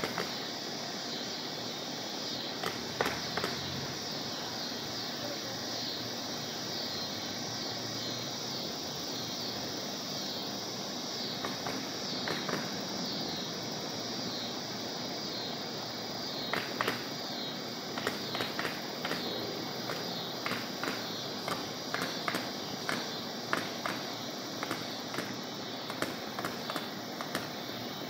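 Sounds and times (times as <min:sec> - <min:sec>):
continuous even hiss: 0:00.0 - 0:28.0.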